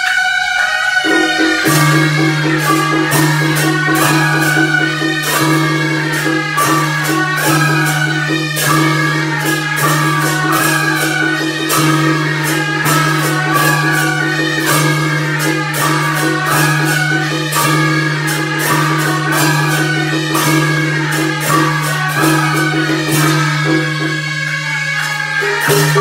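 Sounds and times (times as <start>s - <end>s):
percussion hits: 0.0s - 26.0s.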